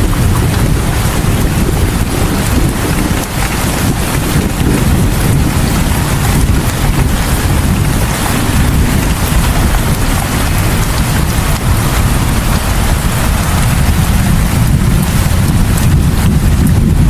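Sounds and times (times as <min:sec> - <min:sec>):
heavy rain hissing: 0:00.0 - 0:17.0
low rumble: 0:00.0 - 0:17.0.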